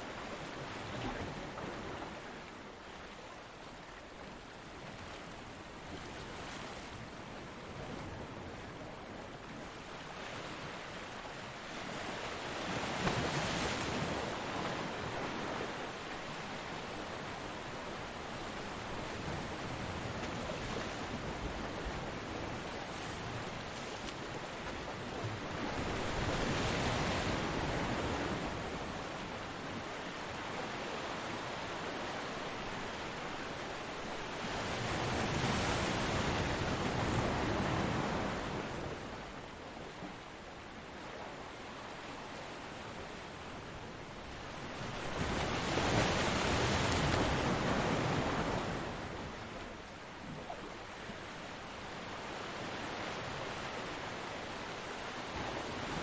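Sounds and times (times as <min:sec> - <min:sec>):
surf washing on beach: 0:04.0 - 0:56.0
ocean waves breaking: 0:09.9 - 0:40.2, 0:41.2 - 0:56.0.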